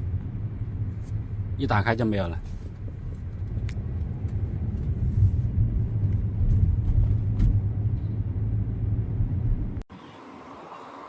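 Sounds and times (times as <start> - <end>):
car road and drivetrain rumble: 0.0 - 11.0.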